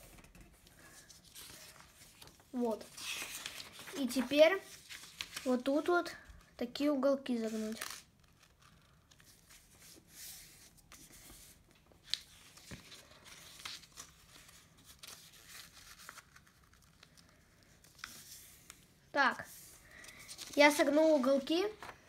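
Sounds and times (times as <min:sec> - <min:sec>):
paper rustling and creasing: 0:00.0 - 0:06.4, 0:07.3 - 0:22.0.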